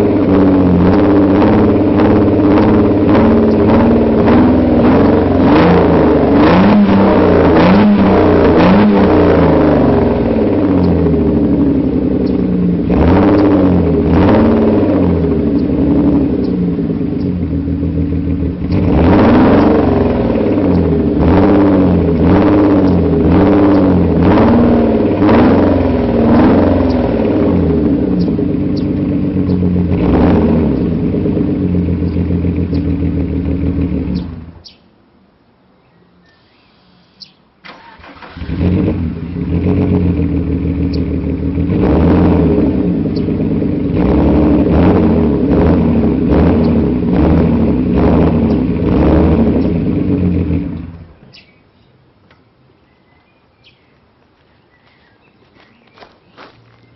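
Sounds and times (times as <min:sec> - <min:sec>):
car engine revving: 0:00.0 - 0:34.6, 0:37.7 - 0:51.3.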